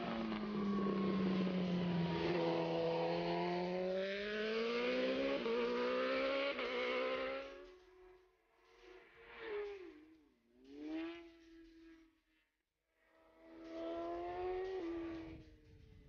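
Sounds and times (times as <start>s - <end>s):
race motorcycle engine accelerating: 0.0s - 12.2s, 13.2s - 16.0s.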